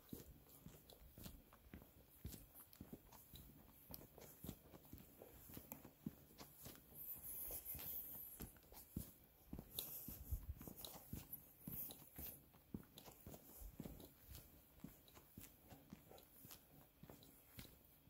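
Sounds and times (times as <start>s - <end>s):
footsteps on trail: 0.0s - 17.8s.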